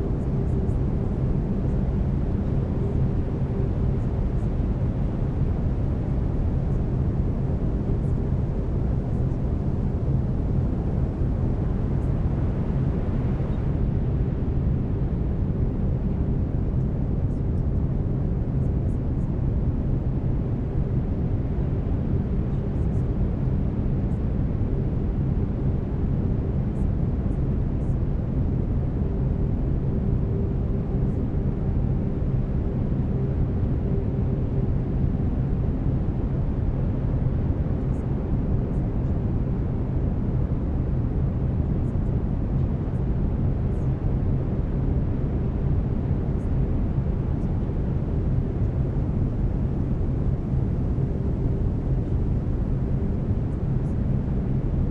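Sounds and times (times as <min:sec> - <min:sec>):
brown noise rumble: 0:00.0 - 0:54.9.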